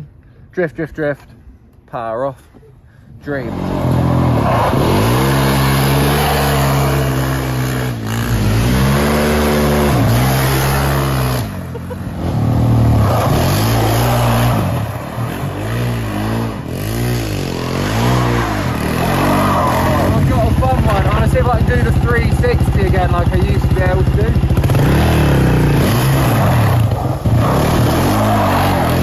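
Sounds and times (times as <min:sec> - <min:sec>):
quad bike engine revving: 0:03.4 - 0:29.0.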